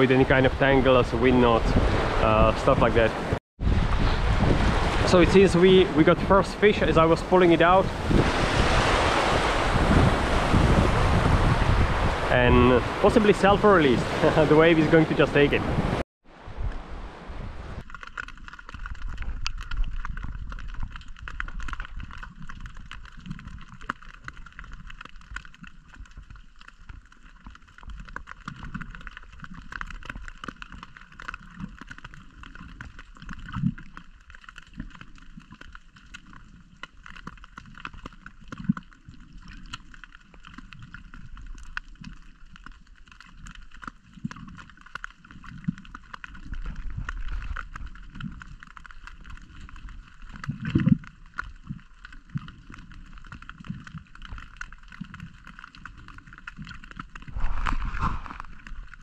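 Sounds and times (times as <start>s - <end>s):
underwater water surging: 0.0s - 59.0s.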